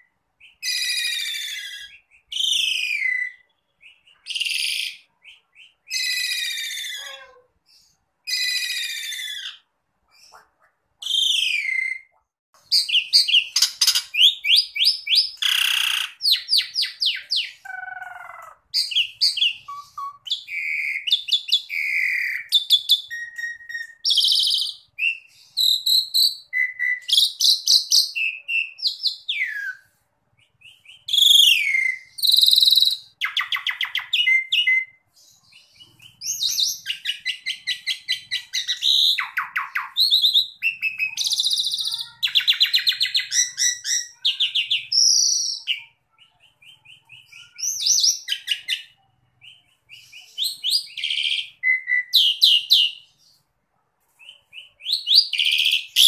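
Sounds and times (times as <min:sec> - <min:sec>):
starling singing: 0:00.0 - 0:53.4, 0:54.4 - 0:56.0.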